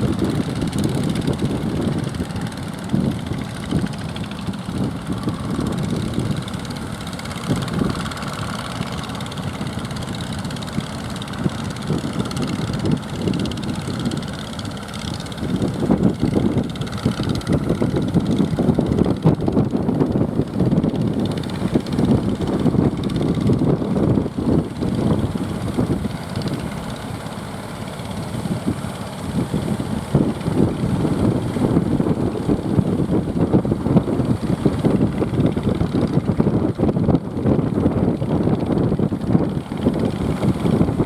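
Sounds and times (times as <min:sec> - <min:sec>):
boat motors running: 0:00.0 - 0:41.0
wind buffeting the microphone: 0:00.0 - 0:41.0.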